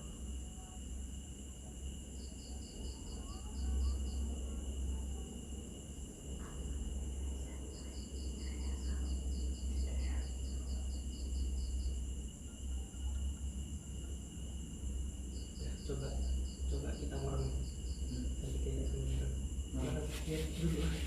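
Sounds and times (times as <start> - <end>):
cricket chirping in pulses: 0.0 - 21.0
insects trilling: 0.0 - 21.0.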